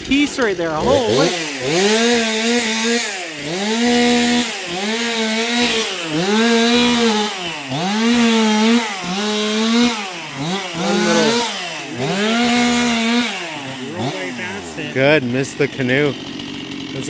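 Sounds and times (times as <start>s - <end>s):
chainsaw running hard: 0.0s - 17.0s.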